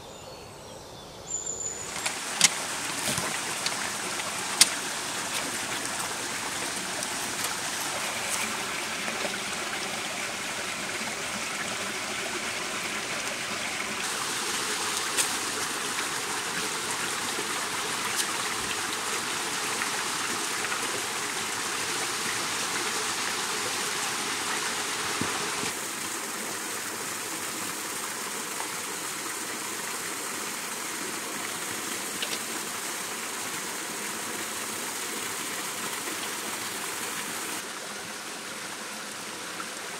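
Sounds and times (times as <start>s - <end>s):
stream and waterfall rushing: 1.6s - 39.9s.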